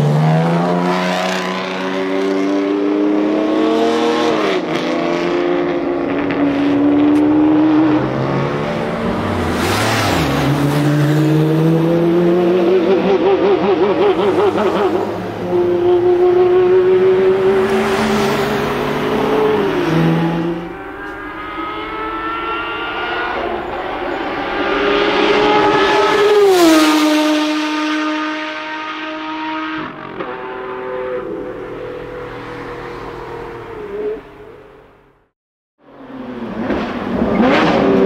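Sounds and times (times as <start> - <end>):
racing car engine at high revs: 0.0 - 21.8, 22.4 - 34.2, 36.0 - 38.0.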